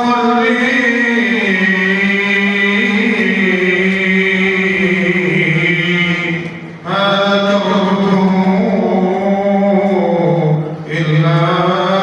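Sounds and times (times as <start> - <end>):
man chanting unaccompanied: 0.0 - 12.0.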